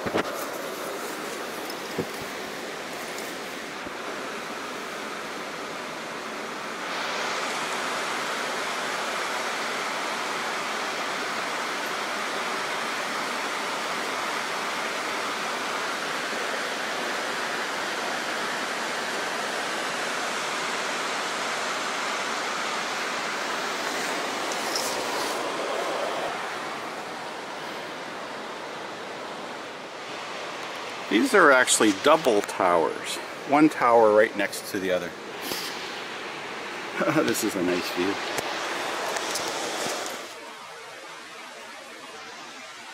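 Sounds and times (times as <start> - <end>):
creek water rushing: 0.0 - 42.9.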